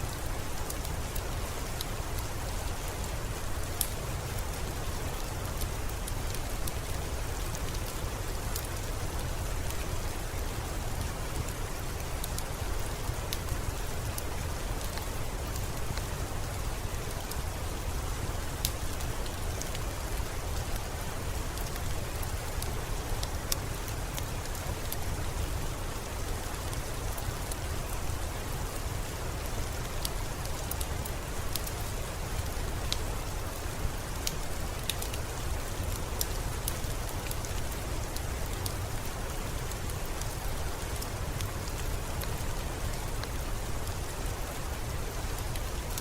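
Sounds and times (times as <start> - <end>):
steady rain: 0.0 - 46.0
wood fire crackling: 0.1 - 46.0.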